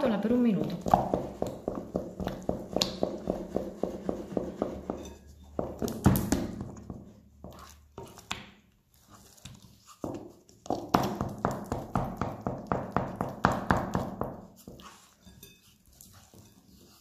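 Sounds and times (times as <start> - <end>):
spatula beating wet dough: 0.0 - 17.0.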